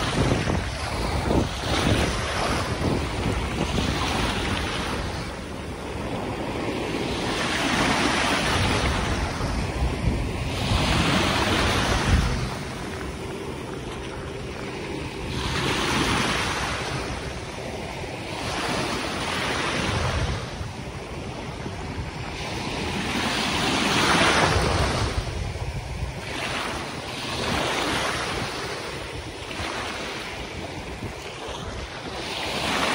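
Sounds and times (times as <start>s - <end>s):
small sea waves washing in: 0.0s - 32.9s
wind buffeting microphone: 0.0s - 32.9s.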